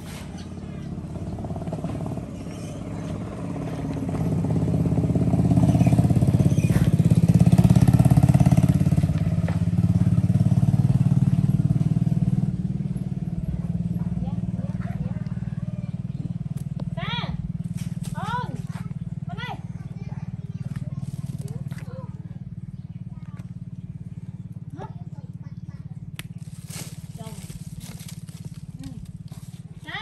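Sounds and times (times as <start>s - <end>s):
engine running with low pulse: 0.0s - 30.0s.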